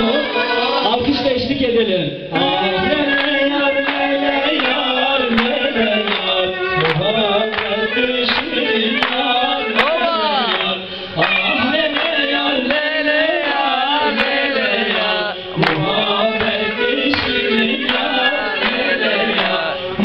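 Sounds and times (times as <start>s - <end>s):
live dance music with singing: 0.0s - 20.0s
people clapping in time: 2.3s - 20.0s.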